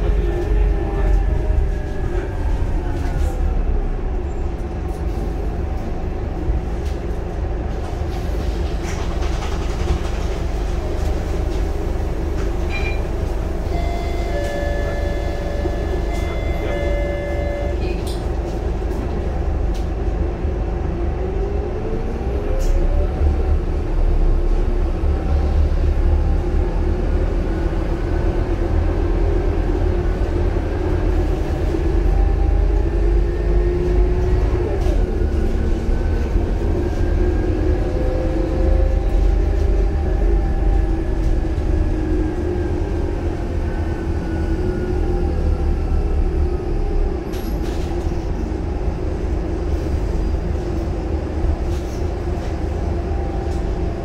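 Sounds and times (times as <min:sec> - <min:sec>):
bus engine from inside: 0:00.0 - 0:54.0.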